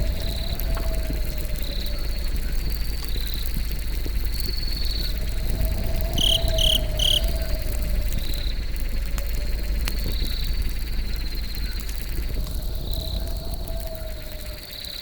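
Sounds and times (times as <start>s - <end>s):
campfire crackling: 0.0s - 15.0s
insects chirping: 0.0s - 15.0s.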